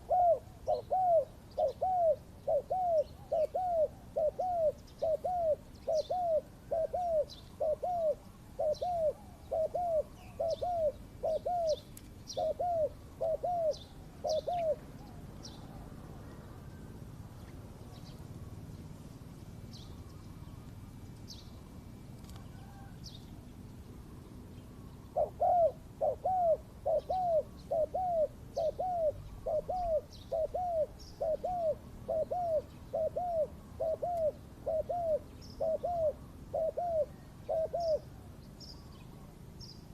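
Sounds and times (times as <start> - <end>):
dove cooing: 0.0 - 18.7, 19.7 - 23.5, 24.1 - 38.4
small birds chirping faintly: 0.0 - 39.9.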